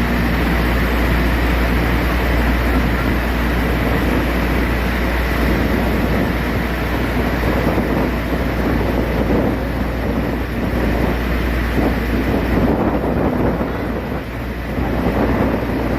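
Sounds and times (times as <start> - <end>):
ferry engine drone: 0.0 - 15.9
wind on microphone: 0.0 - 15.9.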